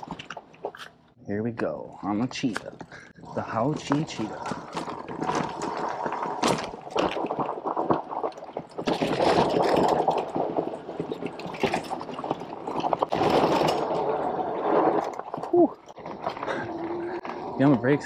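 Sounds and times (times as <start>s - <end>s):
bike rattles and knocks: 0.0s - 1.1s, 2.3s - 18.0s
bike tyres over loose dirt: 0.0s - 1.1s, 2.5s - 18.0s.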